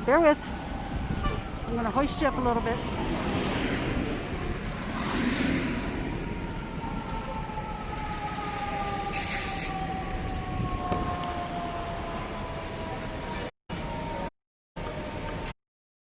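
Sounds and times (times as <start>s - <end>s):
fire truck siren winding down: 0.2s - 15.5s.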